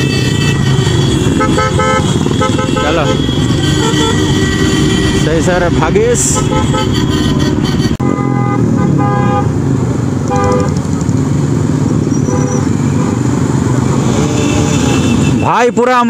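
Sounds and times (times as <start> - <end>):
horns honking: 0.0 - 9.6, 10.2 - 10.8, 12.0 - 13.3, 14.0 - 16.0
motorcycle engines running: 0.0 - 15.8.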